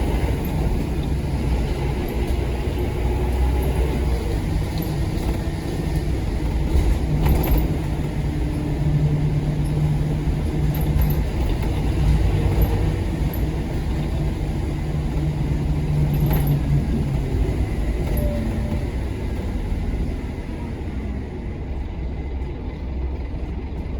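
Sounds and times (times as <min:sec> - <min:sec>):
bus diesel engine droning: 0:00.0 - 0:23.9.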